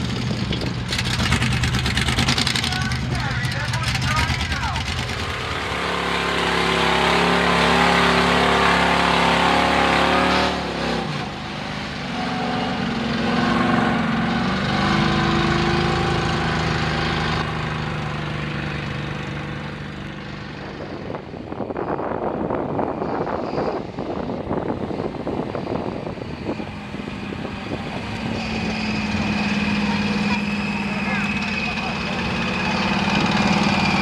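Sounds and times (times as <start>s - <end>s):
truck engines revving loudly: 0.0s - 34.0s
truck pulling through mud: 0.0s - 34.0s.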